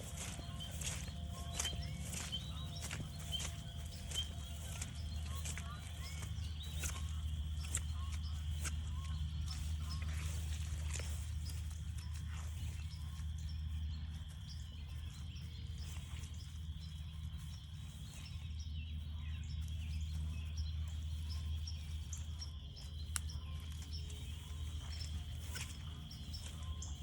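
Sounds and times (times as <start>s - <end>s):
chorus of frogs calling: 0.0s - 27.0s.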